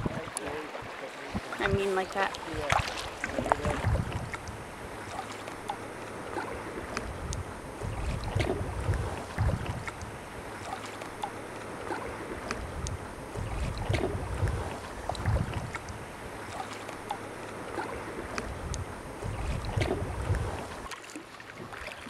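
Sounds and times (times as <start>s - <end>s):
wind gusting on microphone: 0.0s - 20.9s
paddle blades splashing: 0.0s - 22.0s
water dripping: 0.0s - 22.0s.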